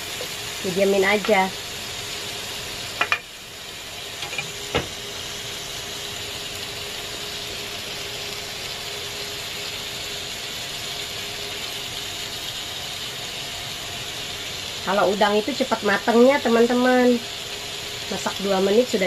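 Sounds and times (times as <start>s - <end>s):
food sizzling on a grill pan: 0.0s - 19.0s.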